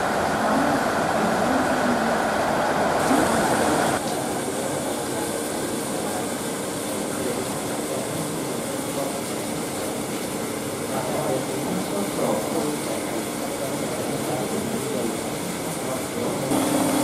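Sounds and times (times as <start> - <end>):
steam locomotive hissing steam: 0.0 - 17.0.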